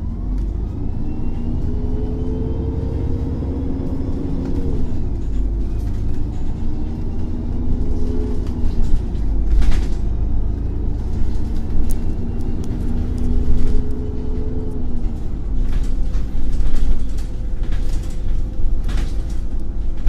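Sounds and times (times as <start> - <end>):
bus engine rumbling: 0.0 - 20.0.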